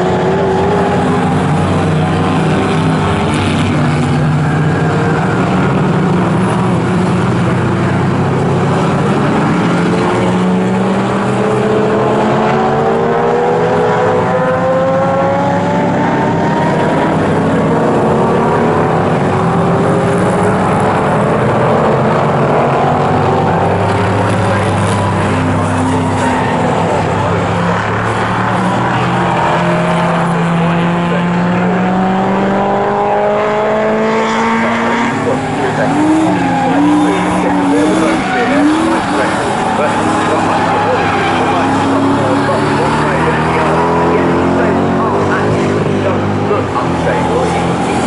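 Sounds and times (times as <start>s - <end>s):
race car engines passing: 0.0s - 48.0s.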